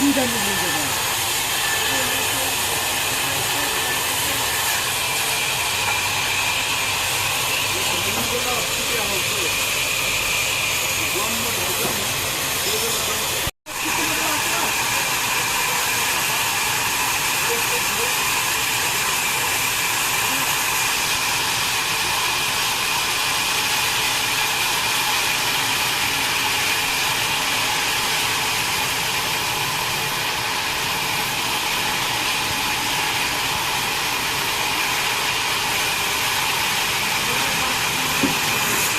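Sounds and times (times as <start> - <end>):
wood-cutting machine whirring: 0.0 - 38.9.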